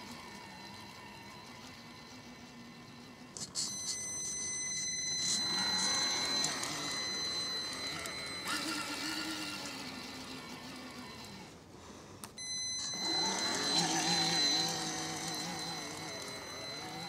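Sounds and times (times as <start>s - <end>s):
steady high-pitched whine: 0.0s - 11.7s, 12.4s - 17.0s
toy truck electric motor whining: 0.0s - 11.7s, 12.8s - 17.0s.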